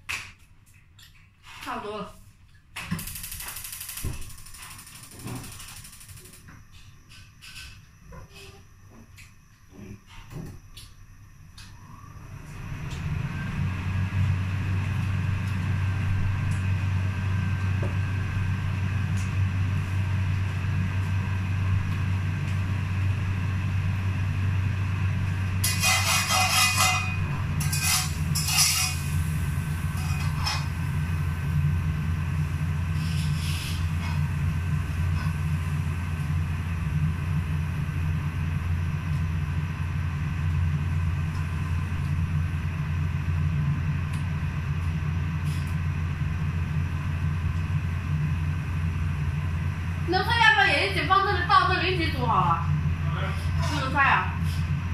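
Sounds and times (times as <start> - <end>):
range hood fan rumble: 1.6 - 54.9.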